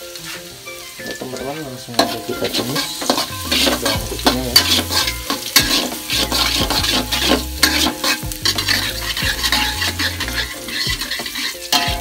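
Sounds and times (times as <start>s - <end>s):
garlic sizzling in oil: 0.0s - 12.0s
spatula scraping metal wok: 0.1s - 12.0s.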